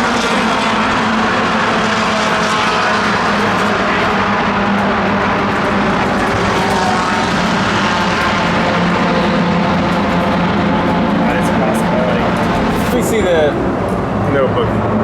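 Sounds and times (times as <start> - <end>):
loud engine drone: 0.0 - 15.0.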